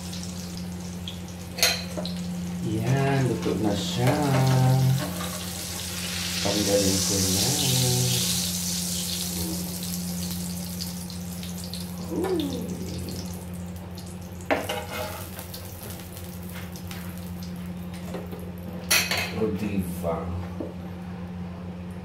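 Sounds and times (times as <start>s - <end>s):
oil sizzling in a frying pan: 0.0s - 19.0s
steady low hum: 0.0s - 22.0s.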